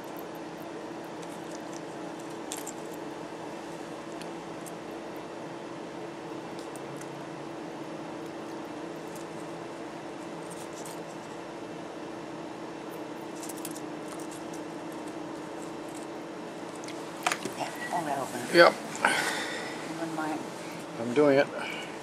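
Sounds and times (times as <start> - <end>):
steady room hum: 0.0 - 22.0.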